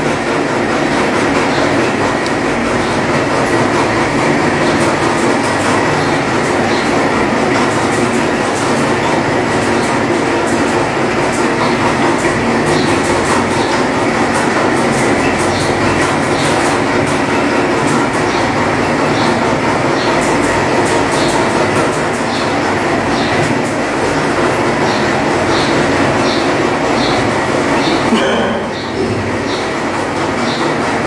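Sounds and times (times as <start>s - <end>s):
heater engine running loudly: 0.0s - 31.0s.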